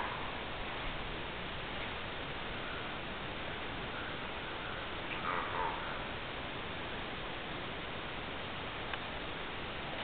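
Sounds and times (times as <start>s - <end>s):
rainforest ambience hiss: 0.0s - 10.0s.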